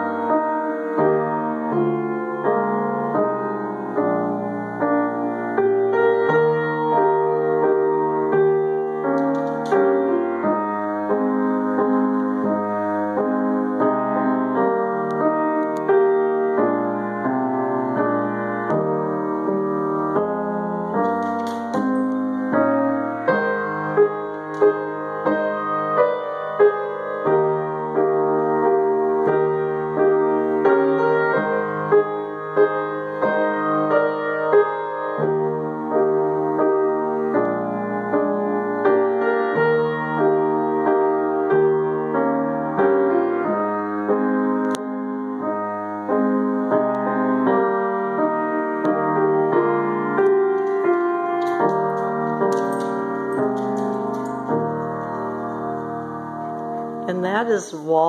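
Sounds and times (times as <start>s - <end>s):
solo grand piano: 0.0s - 58.0s.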